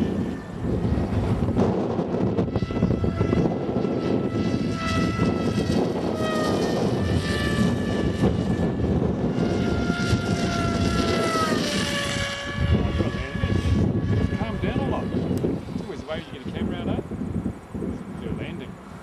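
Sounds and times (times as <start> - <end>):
model plane motor whining: 0.0 - 16.9
wind buffeting microphone: 0.0 - 19.0.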